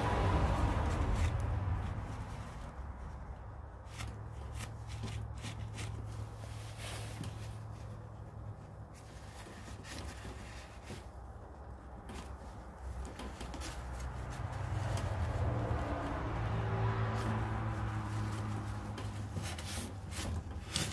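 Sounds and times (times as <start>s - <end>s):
paper towel rustling and rubbing: 0.1s - 20.9s.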